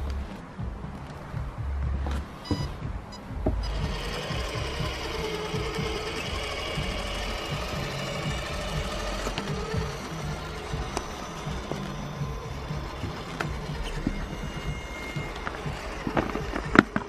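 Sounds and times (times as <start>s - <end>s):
electric motor and gearbox whining: 0.0s - 17.0s
low rumble: 0.0s - 17.0s
scattered knocks: 0.4s - 17.0s.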